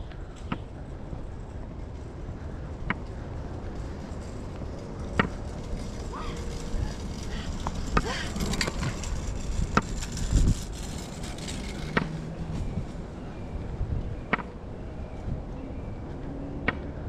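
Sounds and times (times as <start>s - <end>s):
low rumbling wind: 0.0s - 17.0s.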